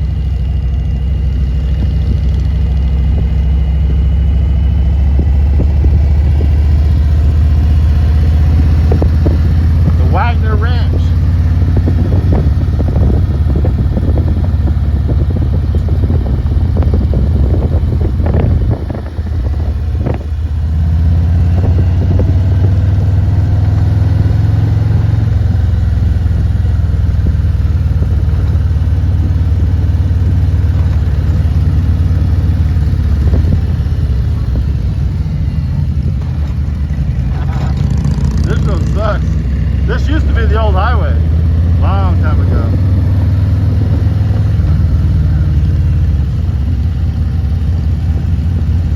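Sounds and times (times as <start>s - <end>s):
motorcycle engine running: 0.0s - 48.9s
wind noise: 1.4s - 48.9s.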